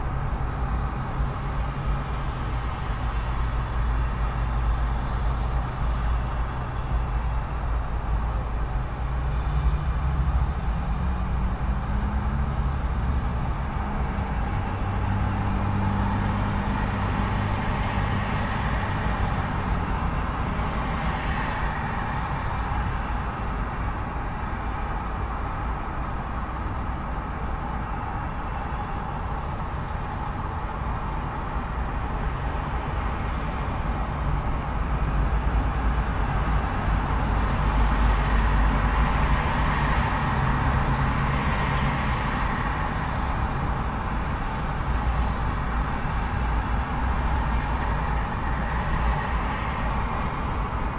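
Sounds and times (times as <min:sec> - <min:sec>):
road traffic noise: 0:00.0 - 0:50.9.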